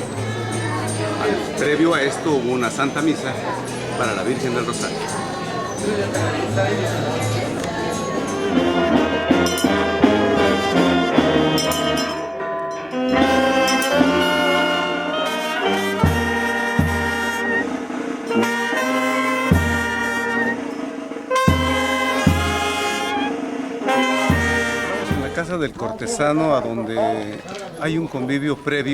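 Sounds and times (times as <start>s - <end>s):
brass band playing: 0.0s - 28.6s.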